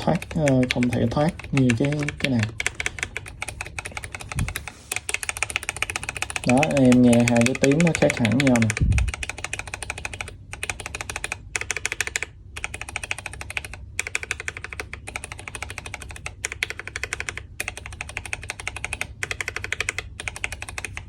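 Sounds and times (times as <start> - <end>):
mechanical keyboard keys pressed: 0.0 - 21.0.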